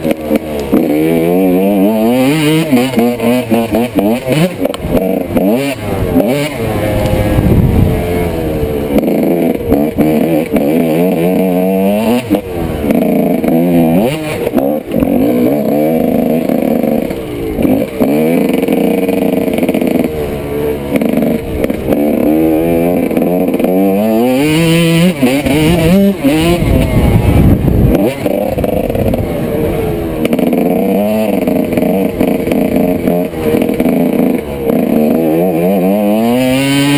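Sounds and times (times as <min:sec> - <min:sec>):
two-stroke motorcycle engine revving: 0:00.0 - 0:36.9.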